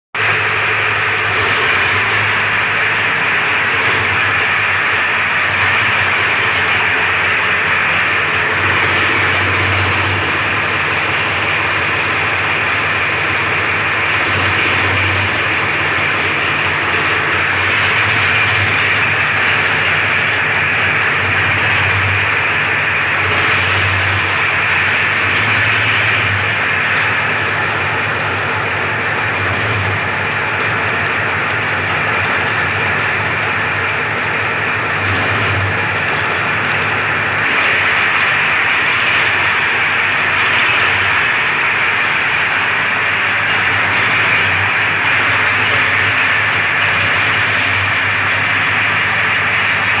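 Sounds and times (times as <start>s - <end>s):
tractor engine running: 0.2s - 50.0s.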